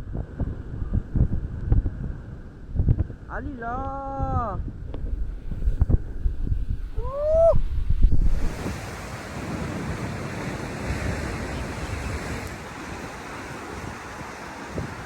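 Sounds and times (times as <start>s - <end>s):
ocean surf washing on shore: 0.0s - 15.0s
wind buffeting microphone: 0.0s - 15.0s.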